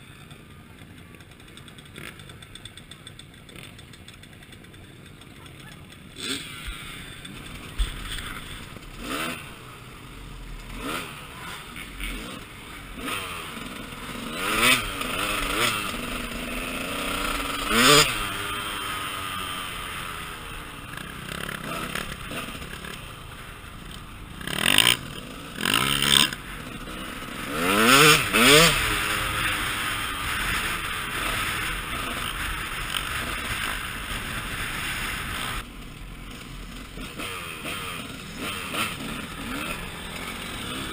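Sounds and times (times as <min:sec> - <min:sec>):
dirt bike engine revving: 0:05.2 - 0:40.9.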